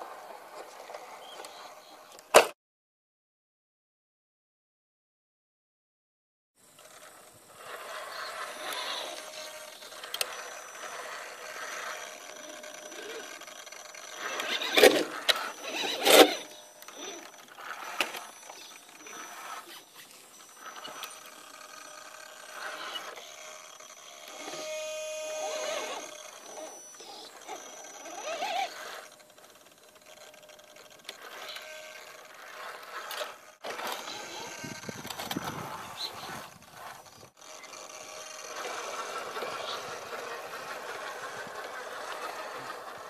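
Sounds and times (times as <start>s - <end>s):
toy car motor whining: 6.7s - 43.0s.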